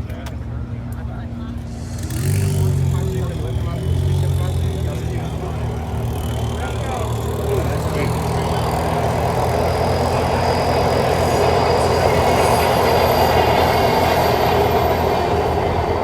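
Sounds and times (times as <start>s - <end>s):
car engine and exhaust rumble: 0.0s - 16.0s.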